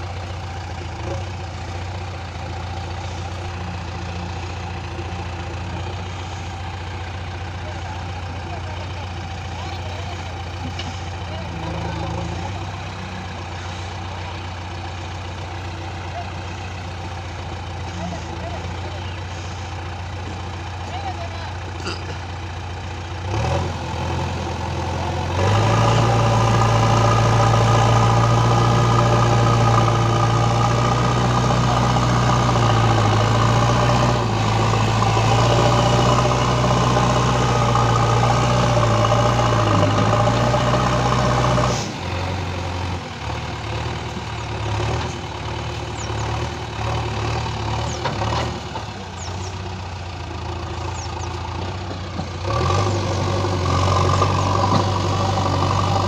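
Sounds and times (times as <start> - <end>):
diesel engine droning under load: 0.0 - 56.0.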